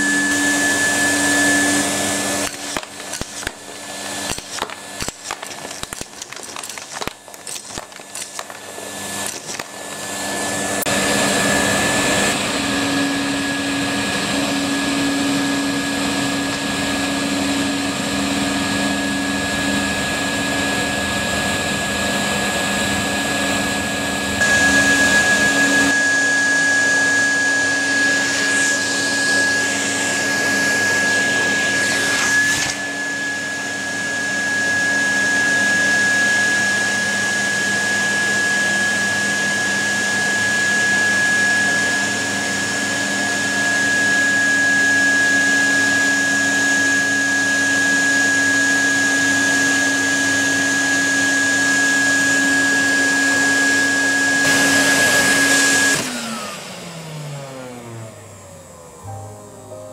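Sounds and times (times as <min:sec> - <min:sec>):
vacuum cleaner running: 0:00.0 - 0:59.8.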